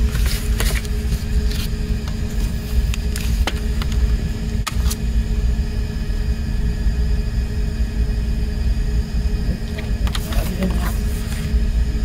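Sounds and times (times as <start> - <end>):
faint constant hum: 0.0 - 12.0
steady low rumble: 0.0 - 12.0.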